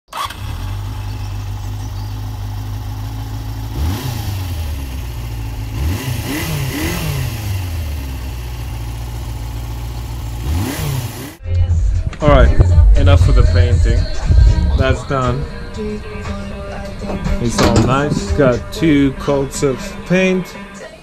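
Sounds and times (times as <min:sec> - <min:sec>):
motorcycle engine idling and revving: 0:00.1 - 0:11.4, 0:12.4 - 0:21.0.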